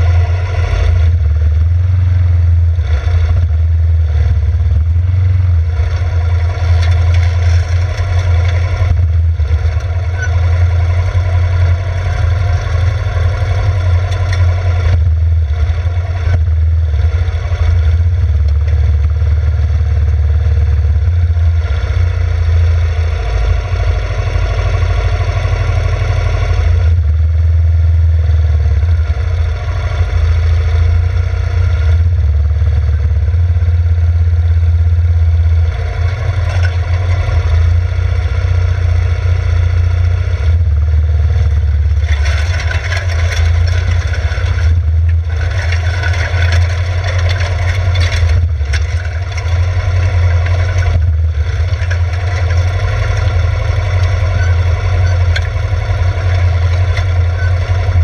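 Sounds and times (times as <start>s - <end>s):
atv engine running: 0.0s - 58.0s
tractor engine running: 0.0s - 58.0s.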